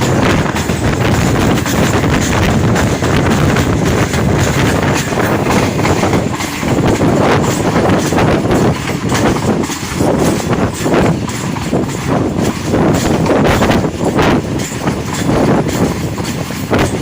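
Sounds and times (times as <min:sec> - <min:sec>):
train wheels rumbling: 0:00.0 - 0:17.0
wheels knocking over rails: 0:00.0 - 0:17.0.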